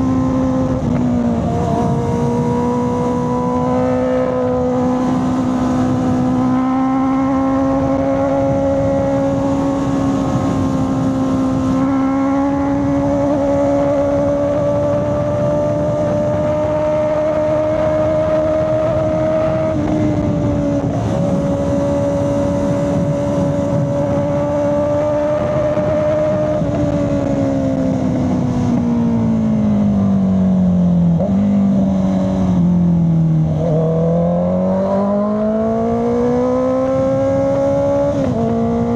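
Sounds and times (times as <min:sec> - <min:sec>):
motorcycle engine revving high: 0:00.0 - 0:38.9.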